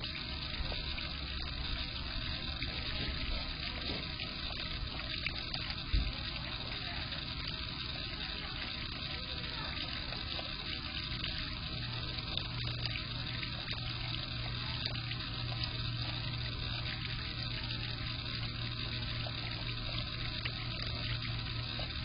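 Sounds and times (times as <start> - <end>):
fountain water splashing: 0.0 - 22.0
pump humming: 0.0 - 22.0.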